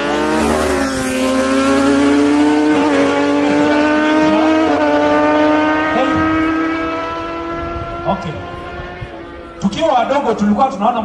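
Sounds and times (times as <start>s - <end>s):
motorcycle engines at high revs: 0.0s - 10.8s.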